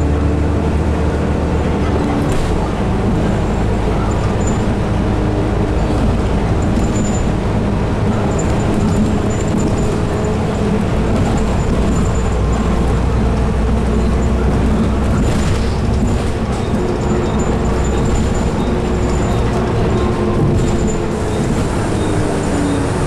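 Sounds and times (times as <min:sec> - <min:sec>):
cabin and road noise: 0:00.0 - 0:23.0
diesel bus engine drone: 0:00.0 - 0:23.0.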